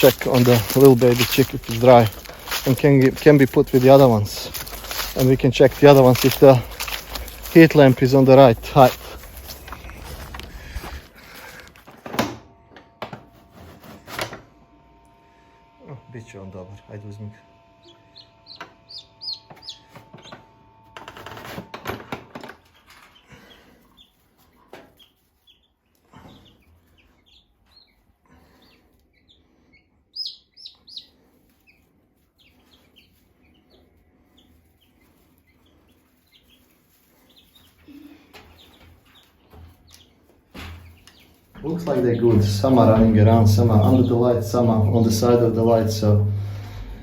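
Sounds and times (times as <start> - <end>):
baby chicks peeping: 0.0 - 11.8, 17.2 - 47.0.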